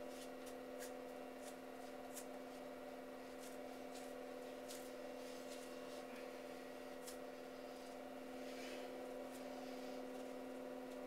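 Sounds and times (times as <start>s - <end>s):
vibration platform humming: 0.0s - 11.0s.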